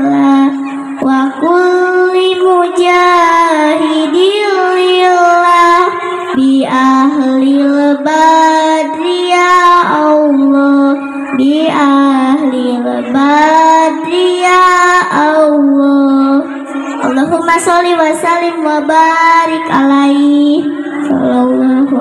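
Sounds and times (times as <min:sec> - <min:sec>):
girl singing into a microphone: 0:00.0 - 0:22.0.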